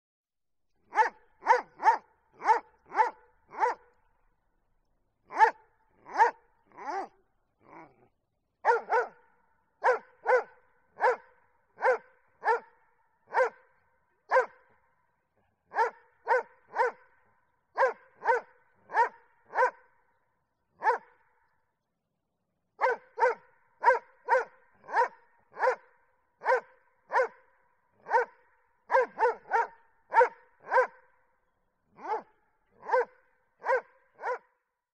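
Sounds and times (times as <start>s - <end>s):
dog barking: 0.8s - 4.0s, 5.2s - 14.8s, 15.6s - 20.0s, 20.8s - 21.6s, 22.8s - 31.2s, 31.9s - 34.6s.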